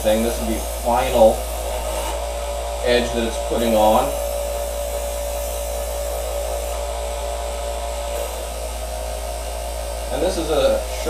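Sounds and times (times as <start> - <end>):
knife sharpener motor hum: 0.3 - 11.0.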